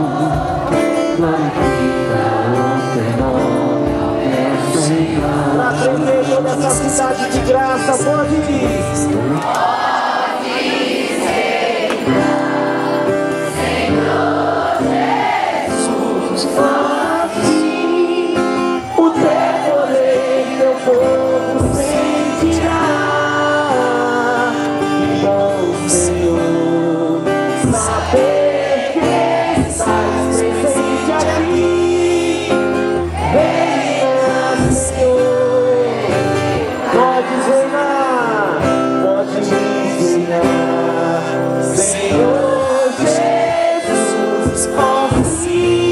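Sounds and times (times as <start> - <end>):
instrumental accompaniment with bass: 0.0 - 9.4, 12.0 - 45.9
worship song singing: 0.0 - 45.9.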